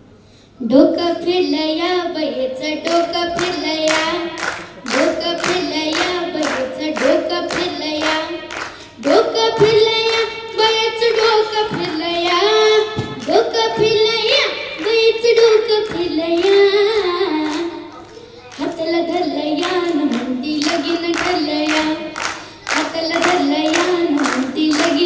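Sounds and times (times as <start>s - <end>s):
girl singing into a microphone: 0.6s - 25.0s
hands clapping to a beat: 2.9s - 14.0s, 15.7s - 25.0s.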